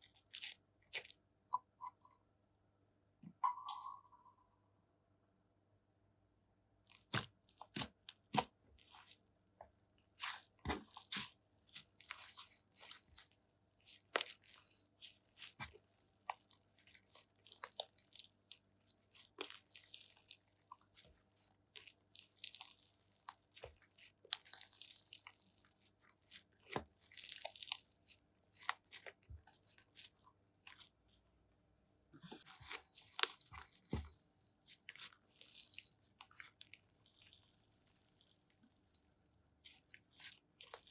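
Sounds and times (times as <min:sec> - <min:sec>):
slime crackling and squelching: 0:00.0 - 0:01.3, 0:06.8 - 0:31.4, 0:32.2 - 0:40.9.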